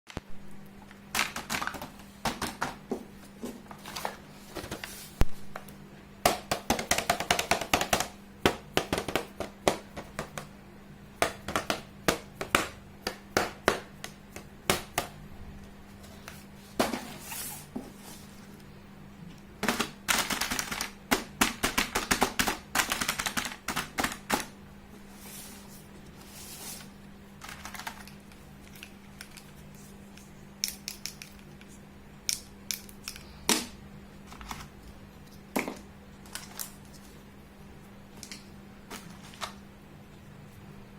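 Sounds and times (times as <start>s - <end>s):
steady low hum: 0.1s - 40.9s.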